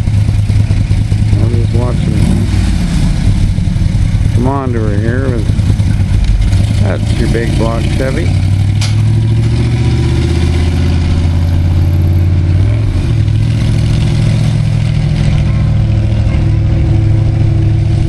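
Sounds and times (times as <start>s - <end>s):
vee eight engine at low revs: 0.0s - 18.0s.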